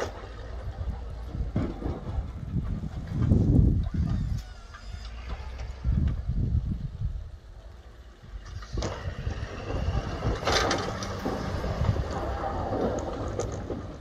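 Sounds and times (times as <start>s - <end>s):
snow-clearing vehicle engine rumble: 0.0s - 14.0s.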